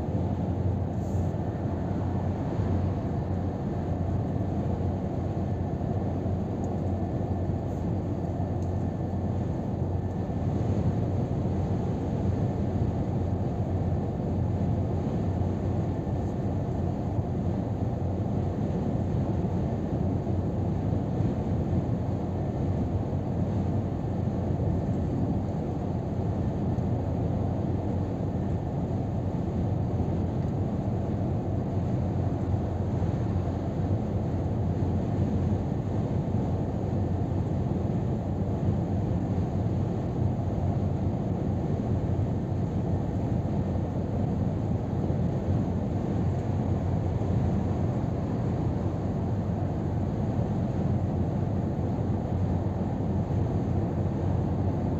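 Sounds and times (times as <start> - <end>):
truck cab low rumble: 0.0 - 54.9.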